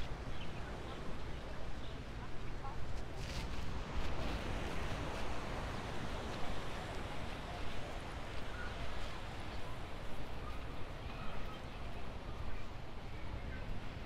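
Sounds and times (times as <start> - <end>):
outdoor noise: 0.0 - 14.0
wind rumbling on microphone: 0.0 - 14.0.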